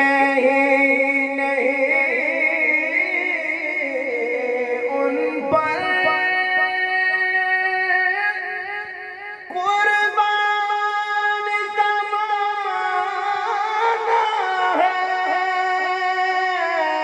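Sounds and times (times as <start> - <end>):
man singing through a microphone: 0.0 - 17.0.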